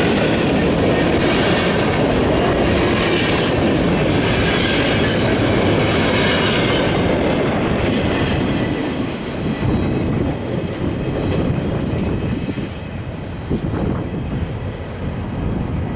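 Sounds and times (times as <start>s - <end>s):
freight train rolling past: 0.0s - 15.9s.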